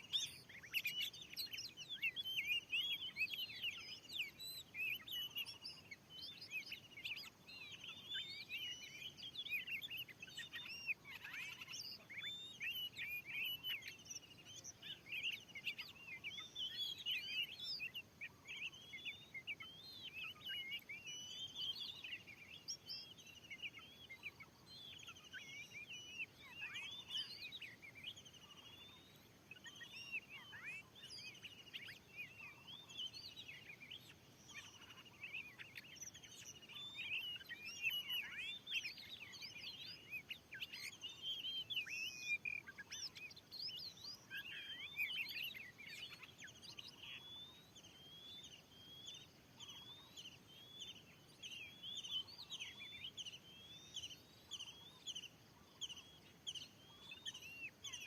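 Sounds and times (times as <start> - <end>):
bird singing whistles and chirps: 0.0 - 58.0
faint outdoor background noise: 0.0 - 58.0.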